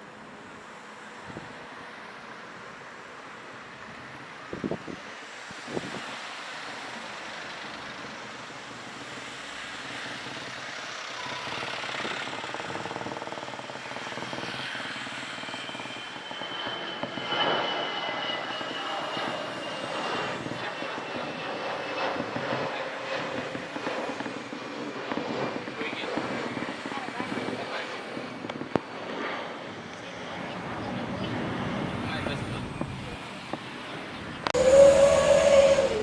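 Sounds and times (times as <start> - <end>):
high engine whine: 0.0 - 36.0
jet airliner engines roaring: 0.0 - 36.0.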